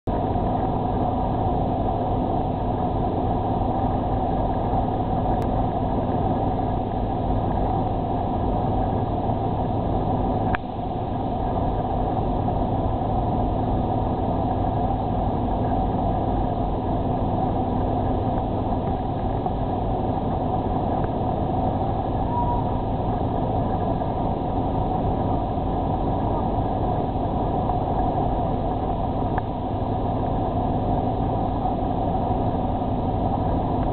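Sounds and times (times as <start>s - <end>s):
ship engines droning: 0.1s - 33.9s.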